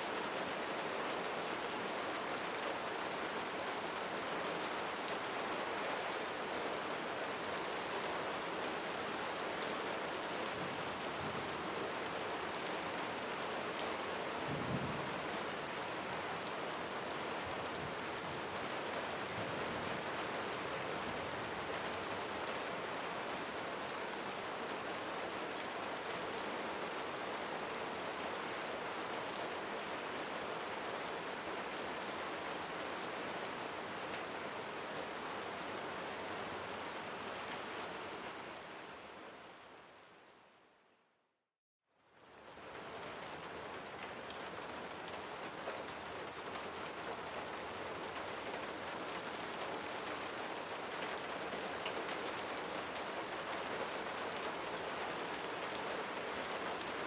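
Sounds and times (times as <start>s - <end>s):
rain falling on leaves: 0.0s - 41.0s, 41.9s - 57.0s.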